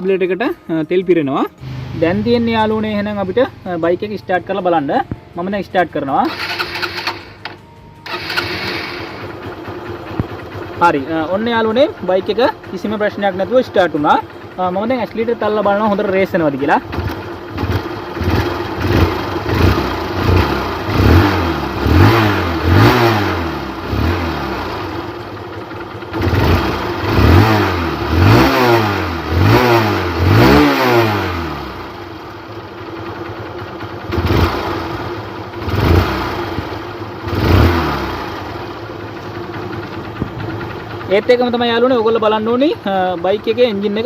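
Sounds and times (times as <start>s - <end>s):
motorcycle engine revving: 1.6s - 44.0s.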